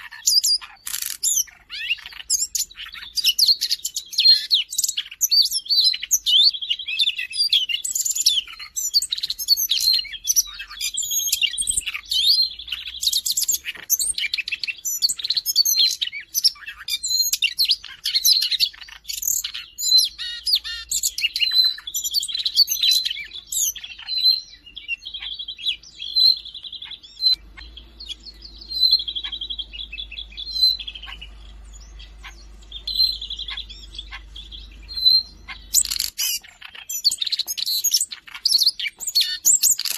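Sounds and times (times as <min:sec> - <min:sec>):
bird singing warbled trills: 0:00.0 - 0:39.9.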